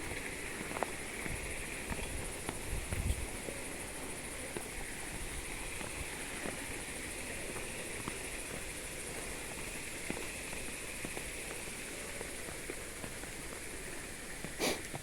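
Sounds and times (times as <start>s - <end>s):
footsteps on forest trail: 0.0s - 15.0s
high-pitched forest hiss: 0.0s - 15.0s.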